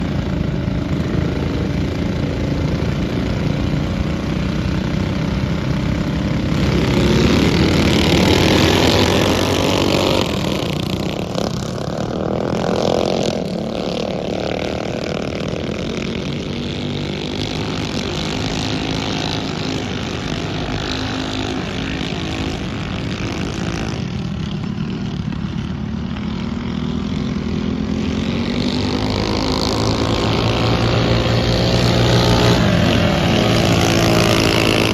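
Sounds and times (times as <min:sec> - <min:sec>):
mini bike engines racing: 0:00.0 - 0:34.9.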